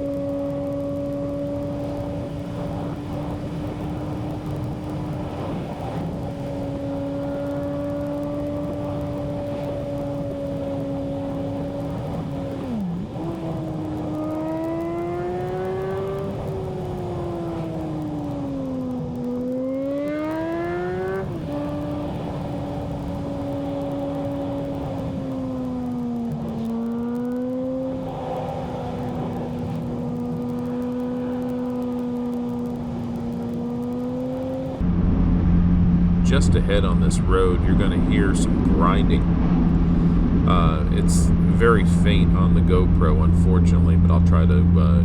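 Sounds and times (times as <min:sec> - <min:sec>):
car engine revving: 0:00.0 - 0:45.0
road noise: 0:00.0 - 0:45.0.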